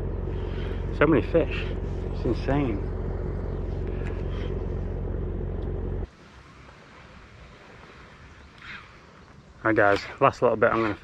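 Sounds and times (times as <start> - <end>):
low engine hum: 0.0 - 9.8
faint outdoor background noise: 0.0 - 11.0.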